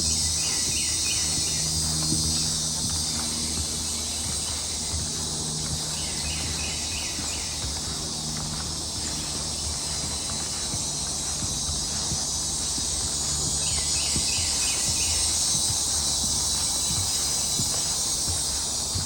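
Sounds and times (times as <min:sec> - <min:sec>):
insects singing: 0:00.0 - 0:19.0.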